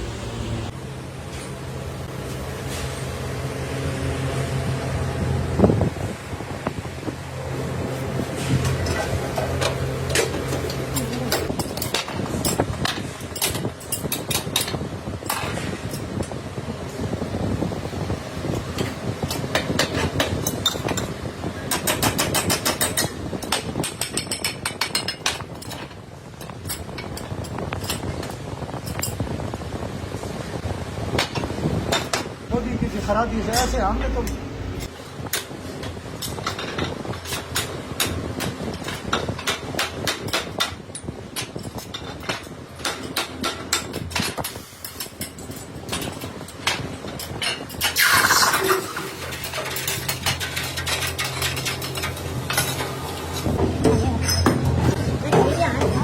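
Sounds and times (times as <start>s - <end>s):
workshop machinery rumble: 0.0s - 23.7s, 31.7s - 56.0s.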